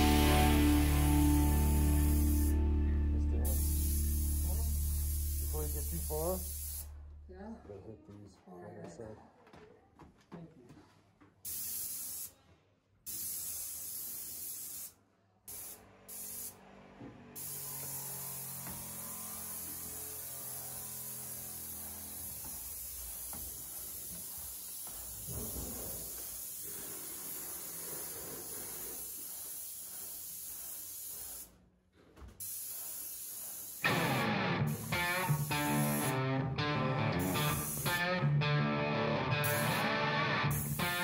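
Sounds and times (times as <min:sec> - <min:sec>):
paint spray gun hissing: 0:00.0 - 0:02.8, 0:03.4 - 0:06.9, 0:11.4 - 0:12.4, 0:13.1 - 0:16.6, 0:17.4 - 0:31.6, 0:32.2 - 0:38.3, 0:39.3 - 0:41.0.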